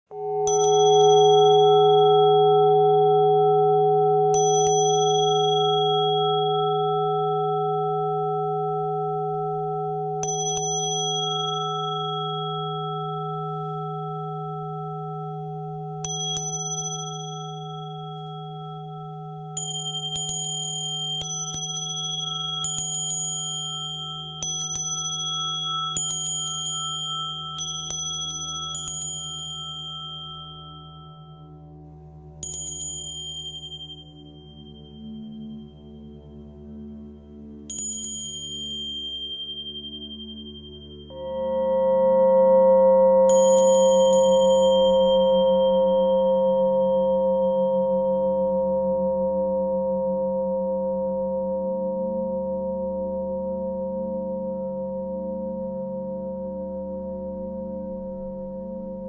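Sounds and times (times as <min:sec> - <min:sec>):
small high-pitched bell struck: 0:00.1 - 0:31.6, 0:32.4 - 0:35.3, 0:37.7 - 0:51.2
singing bowl humming: 0:00.1 - 0:59.0.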